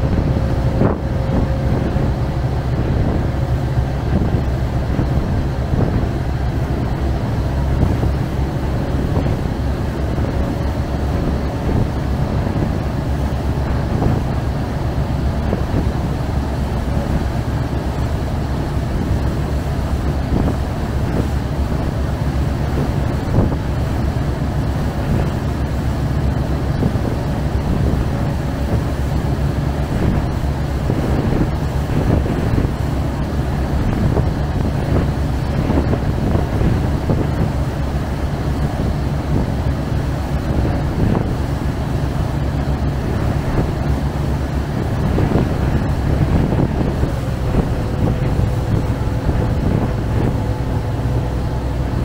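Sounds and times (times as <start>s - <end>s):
boat engine droning: 0.0s - 52.0s
water washing and churning: 0.0s - 52.0s.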